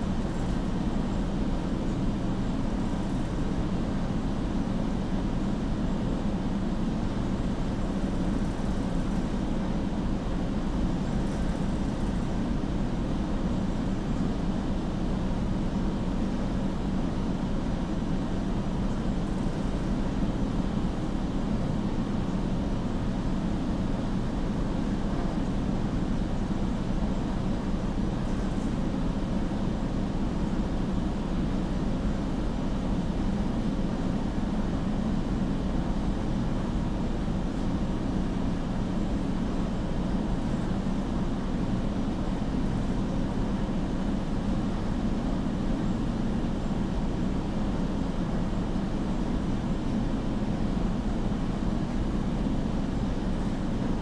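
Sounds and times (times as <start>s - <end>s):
low rumble of background noise: 0.0s - 54.0s.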